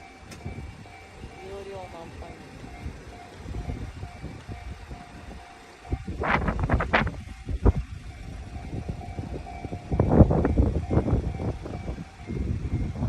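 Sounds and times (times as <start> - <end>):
railroad crossing alarm ringing: 0.0 - 13.0.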